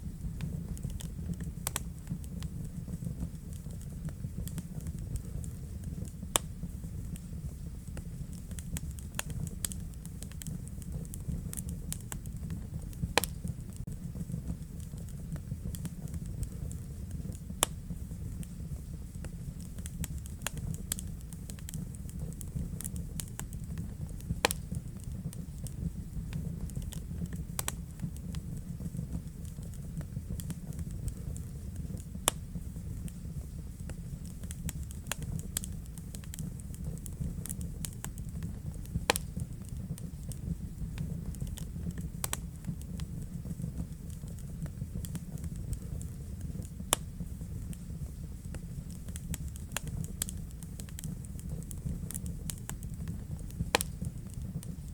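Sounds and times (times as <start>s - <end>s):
loud pops from fire: 0.0s - 54.9s
wood fire crackling: 0.0s - 54.9s.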